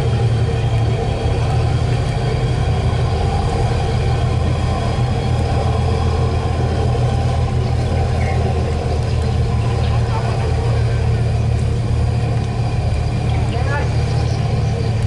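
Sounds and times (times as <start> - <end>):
faint steady whine: 0.0 - 15.0
ferry diesel engines droning: 0.0 - 15.0.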